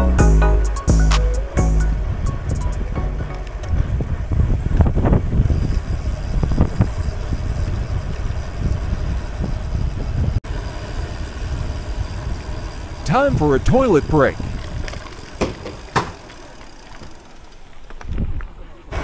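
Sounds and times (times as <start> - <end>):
tyre noise on road: 1.8 - 19.0
wind buffeting microphone: 2.0 - 19.0.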